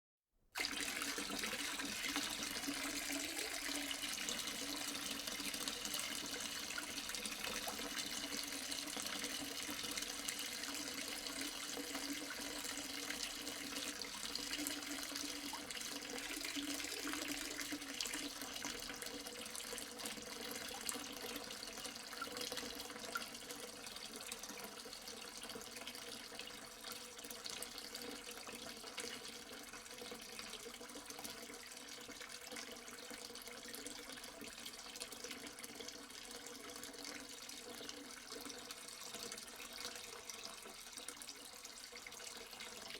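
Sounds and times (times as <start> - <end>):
water pouring into a sink: 0.6 - 42.9.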